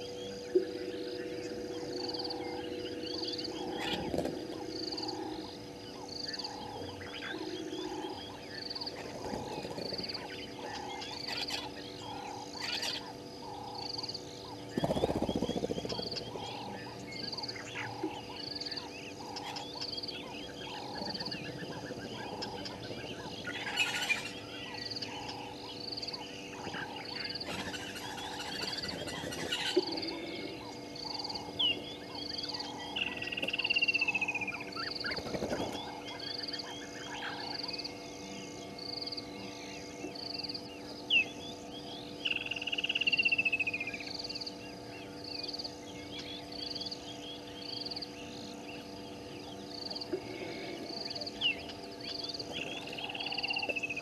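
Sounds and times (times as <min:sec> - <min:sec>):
bird calls: 0:00.0 - 0:54.0
frogs calling: 0:00.0 - 0:54.0.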